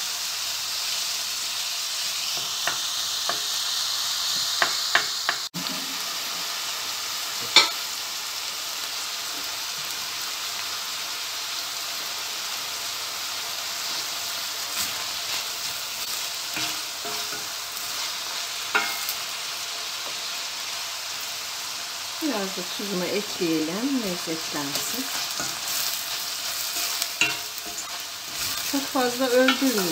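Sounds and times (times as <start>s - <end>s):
vegetables sizzling in oil: 0.0s - 29.9s.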